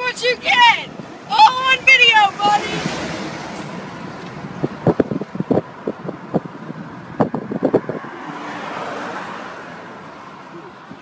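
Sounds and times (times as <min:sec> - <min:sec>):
car on the road: 0:00.0 - 0:11.0.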